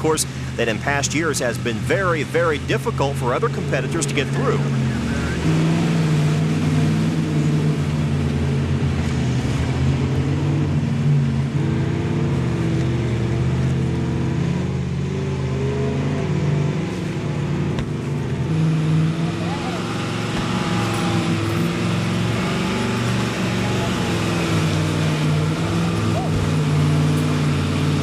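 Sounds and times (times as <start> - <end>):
truck engine revving under load: 0.0 - 28.0.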